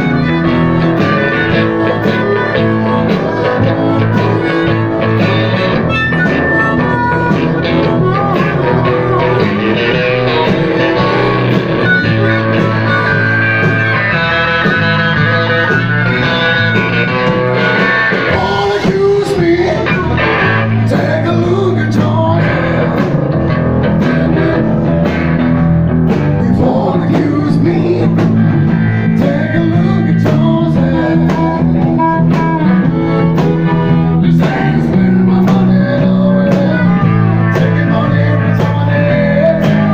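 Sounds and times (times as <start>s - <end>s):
person singing: 0.0s - 25.5s, 26.3s - 39.9s
drums: 0.0s - 39.9s
electric guitars: 0.0s - 39.9s.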